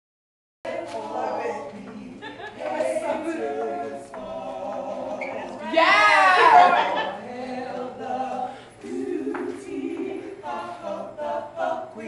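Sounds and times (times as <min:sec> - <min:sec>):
group singing without instruments: 0:00.7 - 0:12.0.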